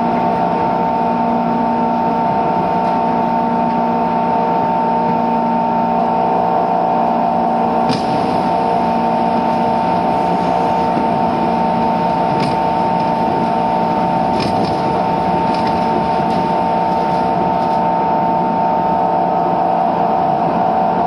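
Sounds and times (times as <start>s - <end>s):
motor generator whine: 0.0s - 21.0s
train running rumble: 0.0s - 21.0s.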